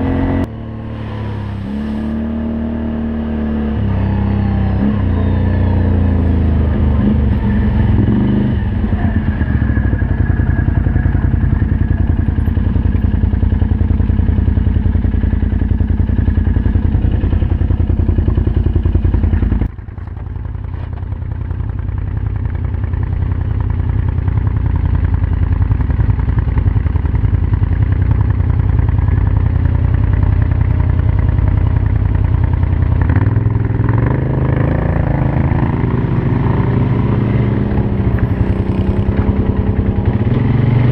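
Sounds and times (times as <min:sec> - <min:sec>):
atv engine revving: 0:00.0 - 0:19.7, 0:22.6 - 0:40.9.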